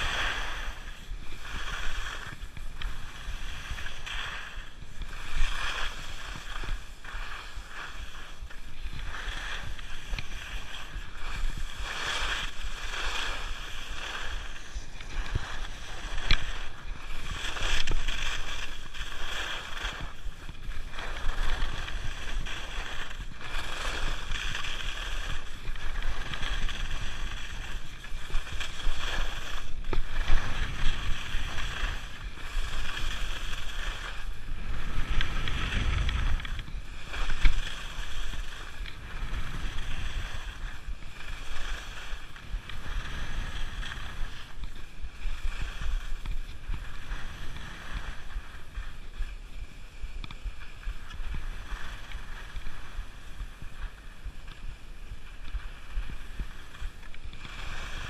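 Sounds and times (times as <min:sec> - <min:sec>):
wind buffeting microphone: 0:00.0 - 0:49.4
skis scraping over snow: 0:00.0 - 0:58.0.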